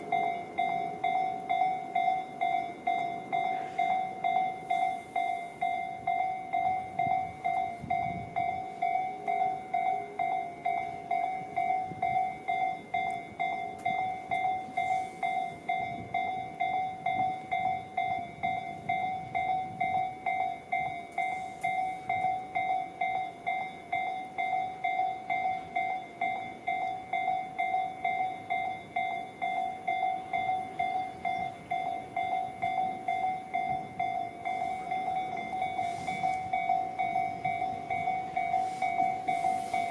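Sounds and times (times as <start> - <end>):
level crossing alarm dinging: 0.0 - 39.9.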